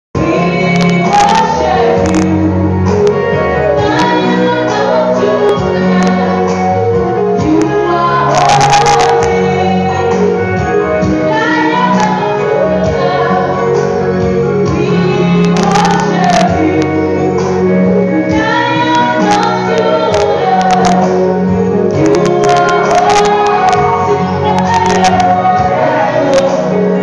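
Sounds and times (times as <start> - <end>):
woman singing gospel song: 0.2 - 27.0
women singing backing vocals: 0.2 - 27.0.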